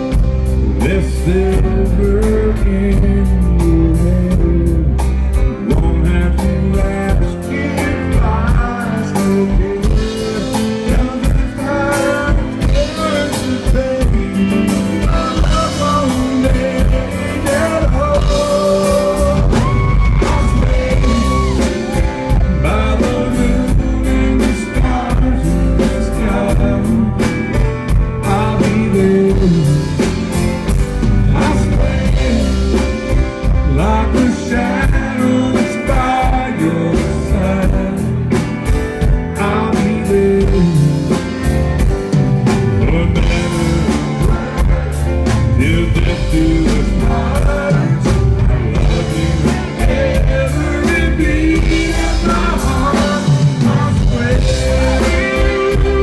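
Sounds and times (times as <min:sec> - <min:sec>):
country band playing: 0:00.0 - 0:56.0.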